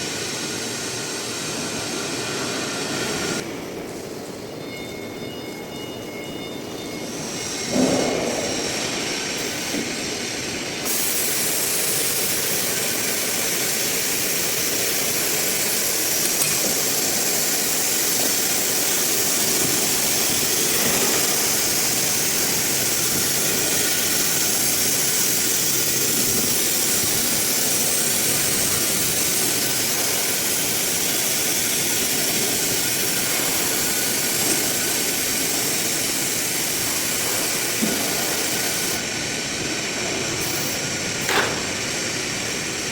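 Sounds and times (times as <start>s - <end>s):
cnc router machine hiss: 0.0s - 42.9s.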